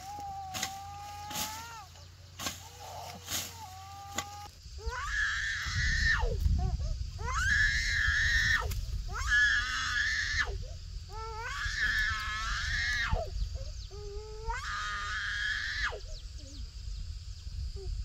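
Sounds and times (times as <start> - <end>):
young child crying: 0.0 - 1.9, 2.6 - 16.1.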